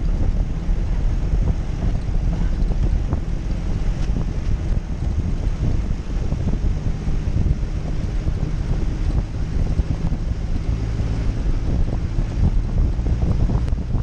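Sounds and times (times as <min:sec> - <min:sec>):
car engine running: 0:00.0 - 0:14.0
wind noise on microphone: 0:00.0 - 0:14.0.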